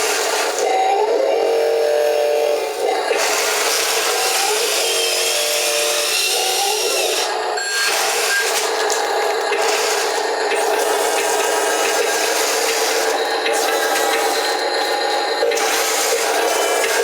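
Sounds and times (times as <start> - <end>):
wheel loader motor running: 0.0 - 17.0.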